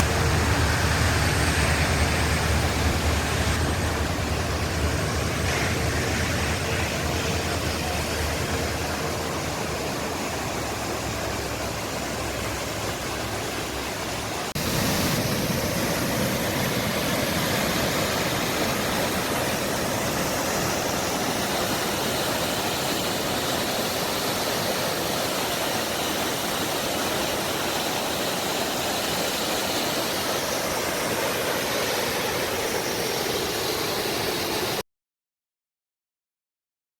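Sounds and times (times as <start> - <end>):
waterfall rushing: 0.0 - 34.8.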